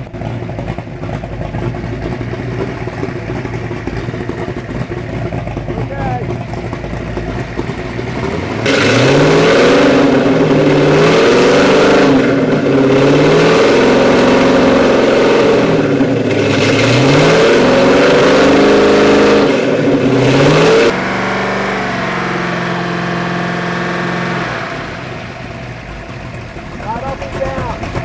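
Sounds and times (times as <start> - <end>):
boat engine revving: 0.0 - 28.0.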